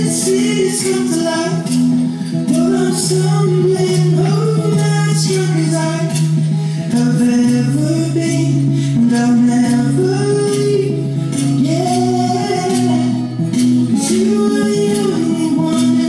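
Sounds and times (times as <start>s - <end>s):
acoustic guitar: 0.0s - 16.0s
man singing: 0.0s - 16.0s.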